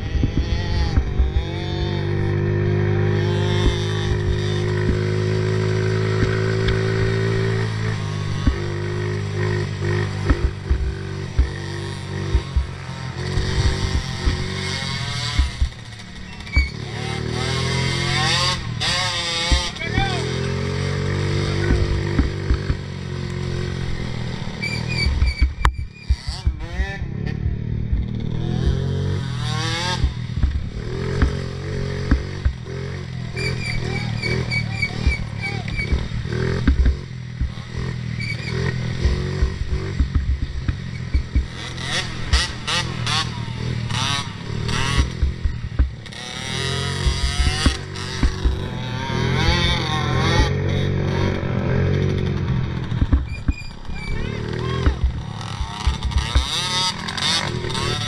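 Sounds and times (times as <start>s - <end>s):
knocks and clatter: 0.0s - 58.0s
quad engine revving: 0.0s - 58.0s.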